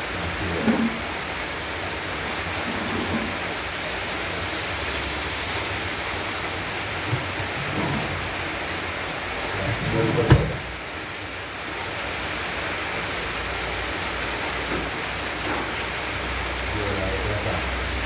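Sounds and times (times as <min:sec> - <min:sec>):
heavy rain on roofs: 0:00.0 - 0:18.0.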